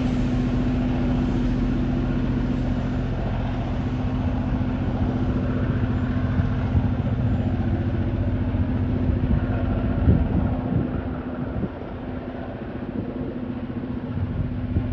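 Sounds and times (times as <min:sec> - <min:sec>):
diesel locomotive engine: 0:00.0 - 0:14.9.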